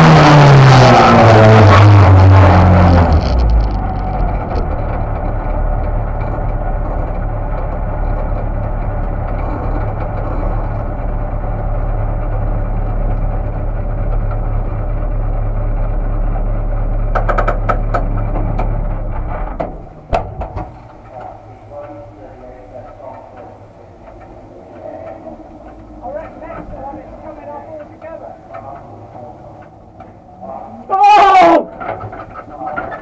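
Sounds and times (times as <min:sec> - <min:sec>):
race car engine idling: 0:00.0 - 0:30.9.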